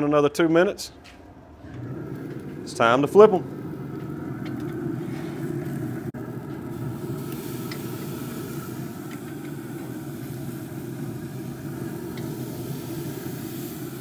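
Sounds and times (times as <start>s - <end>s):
grill rumbling: 0.0s - 14.0s.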